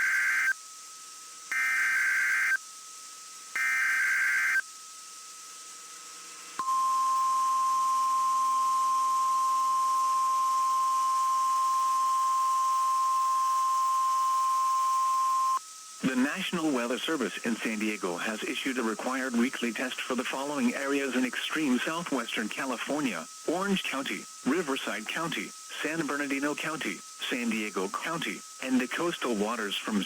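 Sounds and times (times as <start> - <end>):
steady high-pitched alarm tone: 0.0 - 5.4, 6.6 - 30.0.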